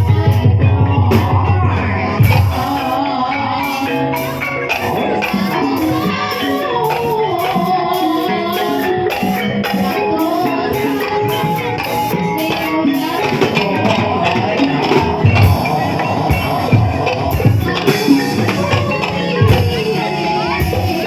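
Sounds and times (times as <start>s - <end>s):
gamelan ensemble playing: 0.0s - 21.0s
person singing: 0.0s - 21.0s
sharp percussion strikes: 0.0s - 21.0s.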